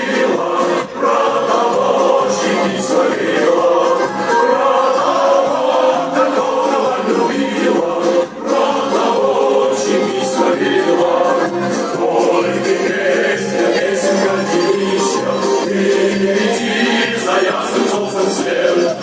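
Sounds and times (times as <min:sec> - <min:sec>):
choir singing: 0:00.0 - 0:19.0.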